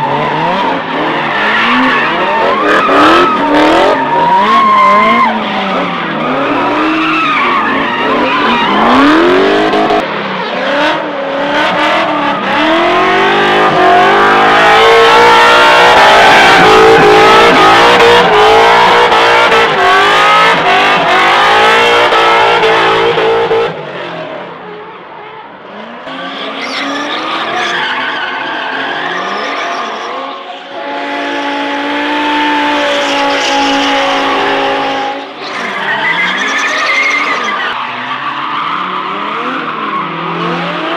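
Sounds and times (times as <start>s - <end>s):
car engines revving hard: 0.0s - 24.9s, 25.5s - 40.9s
tyres squealing and skidding: 0.0s - 24.9s, 25.7s - 40.9s.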